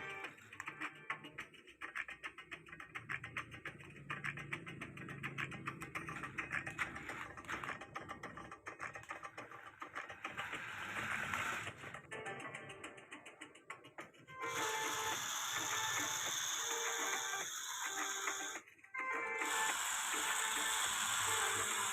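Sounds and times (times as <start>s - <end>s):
toy car motor and gears: 0.0s - 12.1s, 13.7s - 18.8s, 19.4s - 21.9s
rapid clicking: 0.3s - 18.7s.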